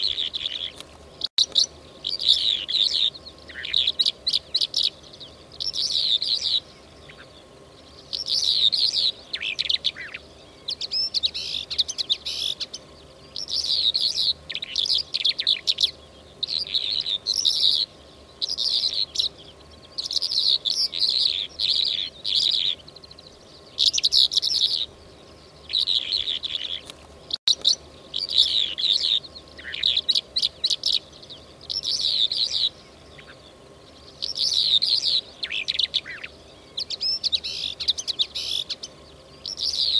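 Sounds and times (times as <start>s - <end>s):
lark singing: 0.0s - 39.9s.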